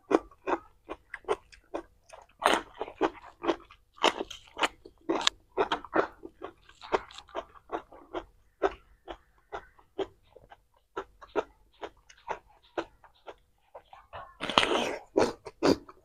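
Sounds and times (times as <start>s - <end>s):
crunching raw cucumber: 0.0s - 16.0s.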